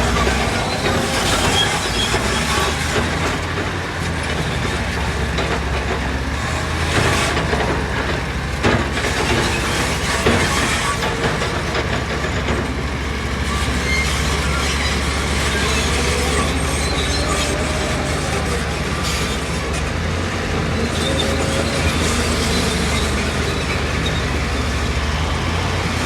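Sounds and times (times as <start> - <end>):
diesel engine hum: 0.0 - 26.0.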